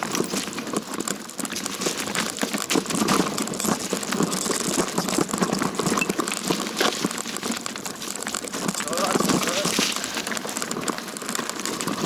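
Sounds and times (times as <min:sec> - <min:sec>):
dry leaves crunching underfoot: 0:01.6 - 0:12.0.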